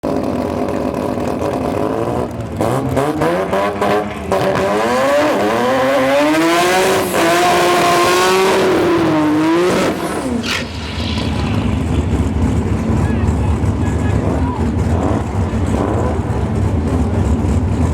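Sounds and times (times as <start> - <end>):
rotary engine revving: 0.1 - 17.9.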